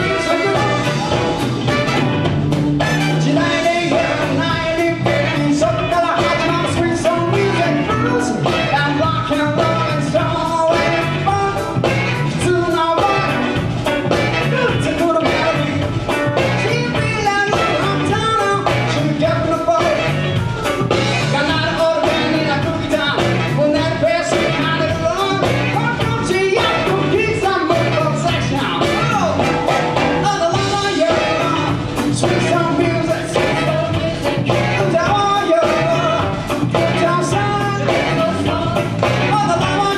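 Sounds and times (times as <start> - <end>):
person singing: 0.0 - 1.6, 2.9 - 39.9
live band playing: 0.0 - 39.9
steady drum beat: 0.0 - 39.9.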